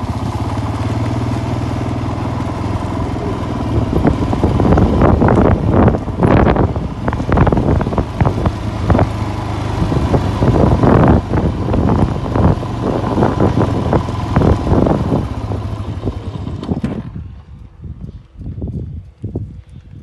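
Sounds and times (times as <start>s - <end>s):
vehicle engine humming: 0.0s - 20.0s
wind buffeting microphone: 0.0s - 20.0s.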